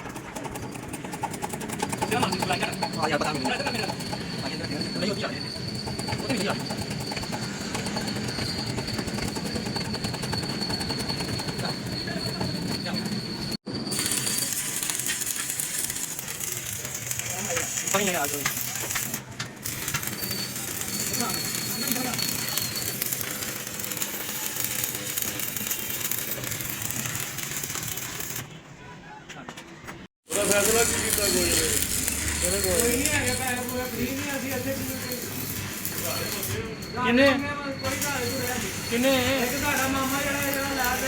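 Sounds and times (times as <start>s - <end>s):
arc welding crackling and hissing: 0.4s - 28.5s, 30.2s - 41.0s
thin high whine: 2.0s - 28.4s, 30.3s - 41.0s.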